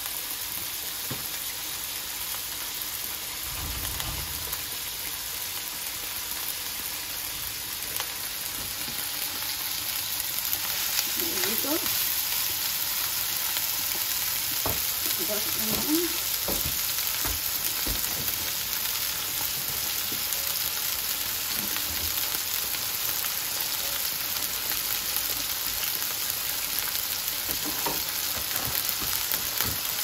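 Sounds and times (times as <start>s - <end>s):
food frying in hot oil: 0.0s - 30.0s.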